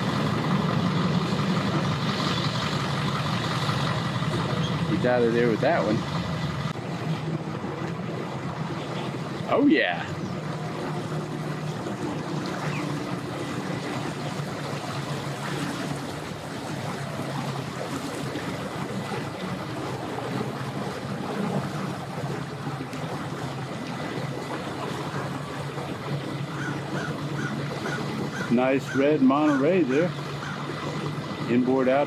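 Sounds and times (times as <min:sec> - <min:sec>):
engine idling: 0:00.0 - 0:28.5
water washing: 0:00.0 - 0:32.0.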